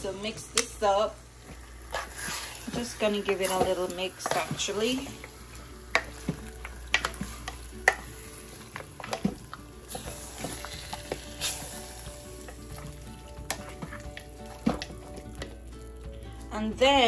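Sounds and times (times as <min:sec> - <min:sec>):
meat squelching while stirred: 0:01.4 - 0:16.4.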